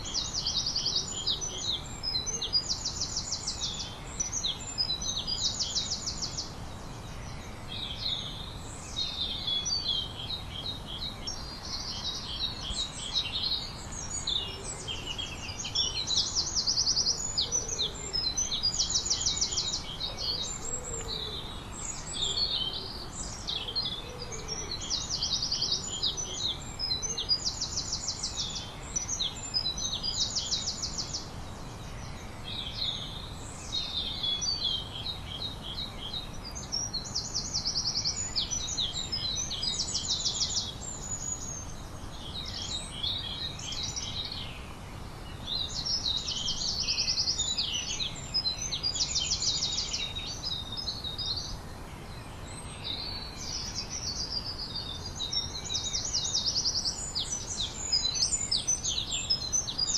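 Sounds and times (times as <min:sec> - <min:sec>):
low background noise: 0:00.0 - 0:59.9
songbirds trilling and chirping: 0:00.0 - 0:59.9.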